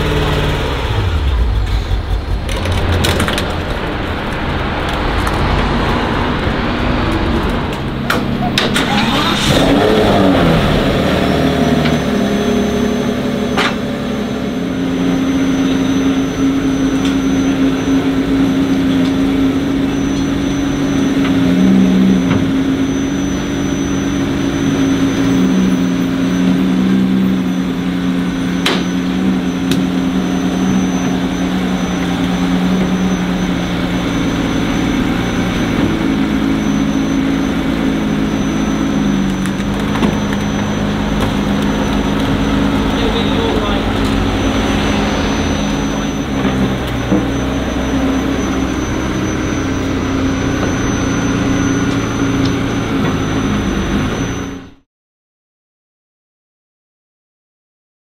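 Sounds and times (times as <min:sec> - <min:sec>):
car engine running at low speed: 0:00.0 - 0:54.8
thin high whine: 0:01.6 - 0:54.8.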